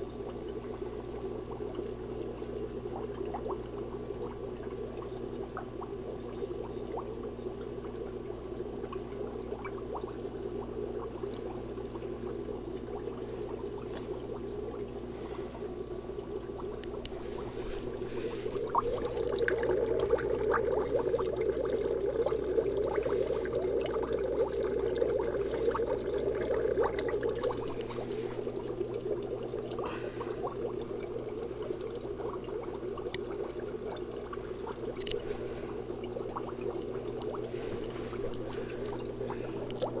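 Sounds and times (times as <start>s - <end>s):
aquarium filter bubbling: 0.0s - 40.0s.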